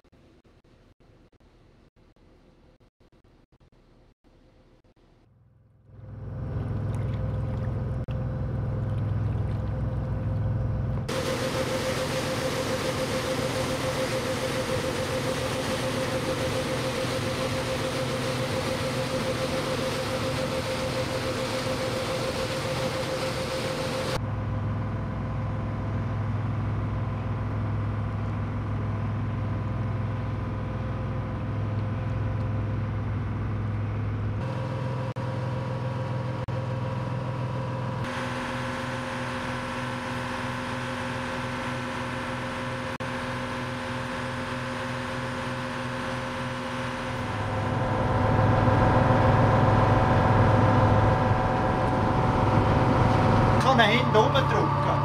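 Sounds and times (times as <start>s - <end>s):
boat engine hum: 5.0s - 55.0s
water churning in propeller wash: 6.4s - 55.0s.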